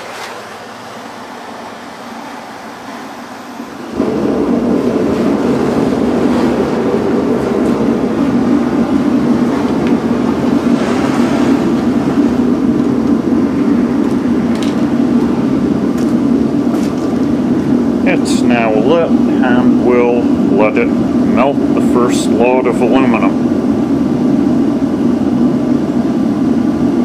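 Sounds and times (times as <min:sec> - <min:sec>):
blower fan: 0:00.0 - 0:27.0
propane burner roaring: 0:00.0 - 0:27.0.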